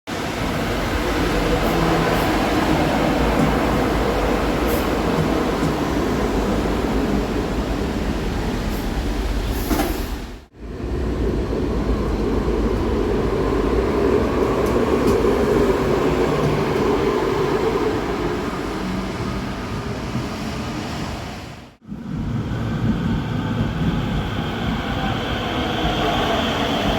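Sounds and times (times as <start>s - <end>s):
train rumbling: 0.1s - 26.9s.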